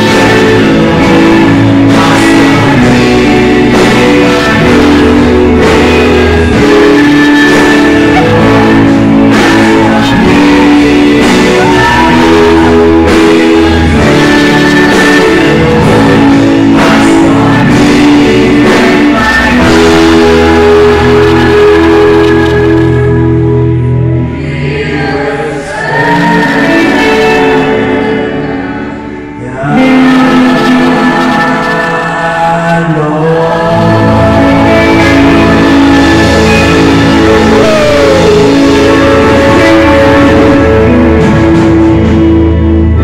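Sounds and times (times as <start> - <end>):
several voices singing: 0.0 - 43.0
strummed guitar: 0.0 - 43.0.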